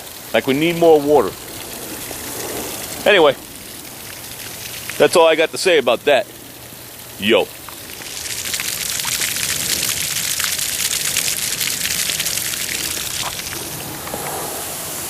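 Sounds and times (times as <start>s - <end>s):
droplets pattering: 0.0s - 14.7s
sprinkler spraying water: 0.0s - 15.0s.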